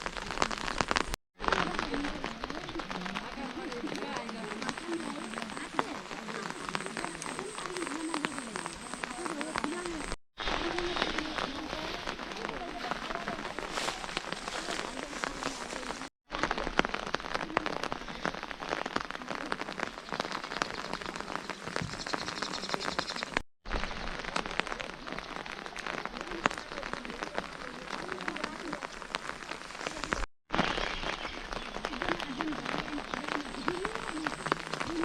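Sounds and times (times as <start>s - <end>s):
steady rain pattering: 0.0s - 35.0s.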